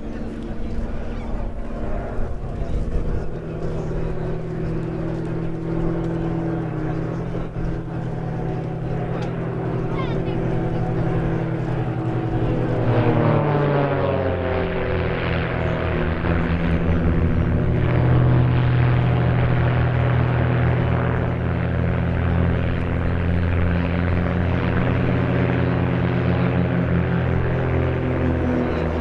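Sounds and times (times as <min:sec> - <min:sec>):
propeller planes droning: 0:00.0 - 0:29.0.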